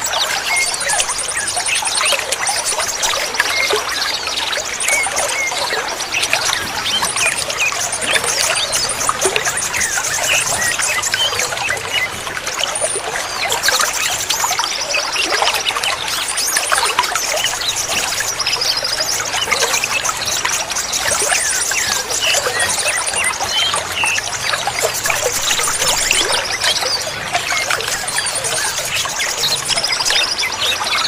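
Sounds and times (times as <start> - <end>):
birds chirping: 0.0 - 31.0
water trickling and splashing: 0.0 - 31.0.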